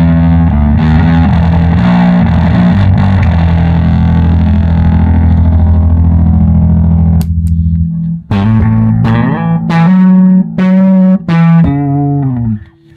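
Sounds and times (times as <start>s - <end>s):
distorted electric guitar notes: 0.0s - 12.9s.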